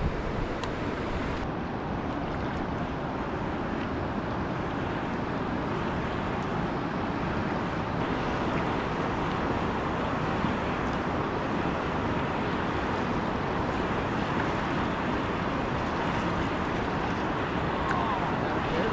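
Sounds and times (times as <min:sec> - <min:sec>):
river water rushing over rapids: 0:00.0 - 0:18.9.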